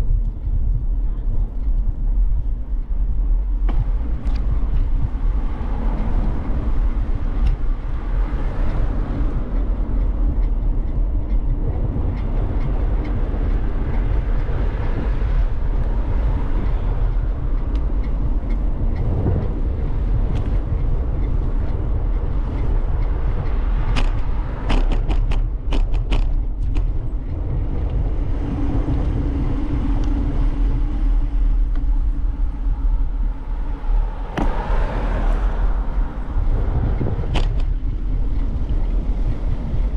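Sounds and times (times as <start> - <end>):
bicycle tyre noise: 0.0 - 39.9
wind rumbling on microphone: 0.0 - 39.9.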